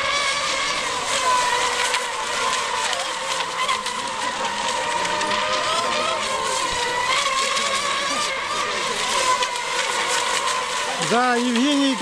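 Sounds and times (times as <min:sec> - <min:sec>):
electric boat motors whining: 0:00.0 - 0:12.0.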